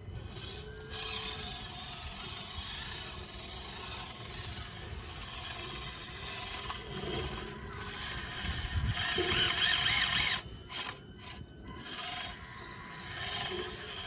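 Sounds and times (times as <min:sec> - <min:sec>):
toy car motors whining: 0:00.0 - 0:14.0.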